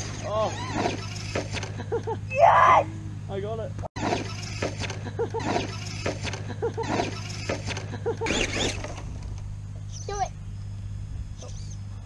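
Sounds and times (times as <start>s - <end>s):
rc truck motor hum: 0.0s - 12.0s.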